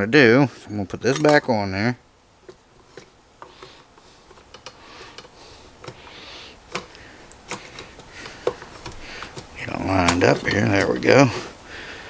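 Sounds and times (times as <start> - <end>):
metal cover scraping: 0.4 - 1.7, 2.4 - 11.6.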